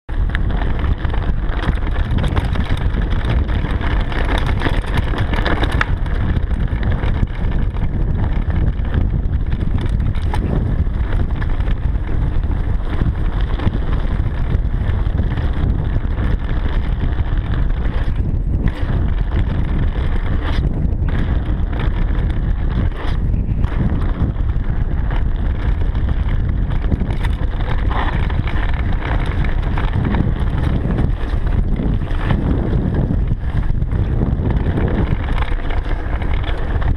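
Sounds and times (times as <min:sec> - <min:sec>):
bike clicks and rattles: 0:00.1 - 0:36.9
tyres rumbling over dirt: 0:00.1 - 0:36.9
wind buffeting microphone: 0:00.1 - 0:36.9.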